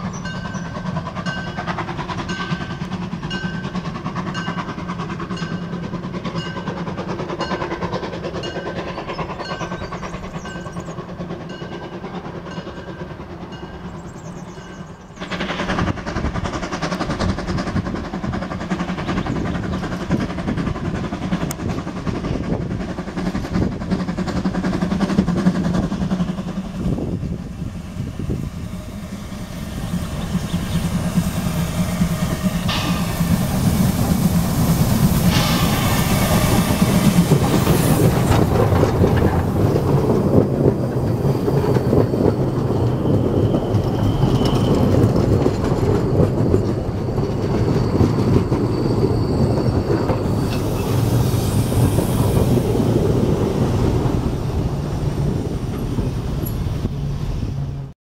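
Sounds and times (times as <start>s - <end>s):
steam locomotive working past: 0.0s - 57.9s
train wheels clattering on rails: 0.0s - 57.9s.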